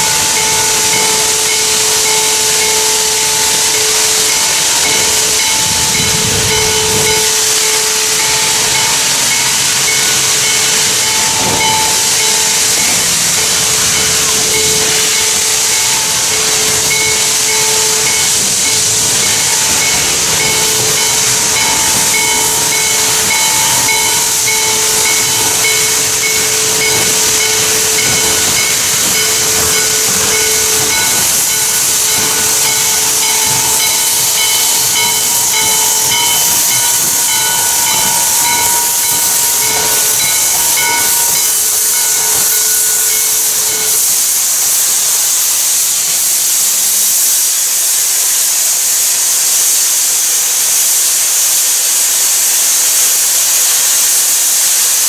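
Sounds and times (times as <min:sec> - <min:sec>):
steam hissing from locomotive: 0:00.0 - 0:55.0.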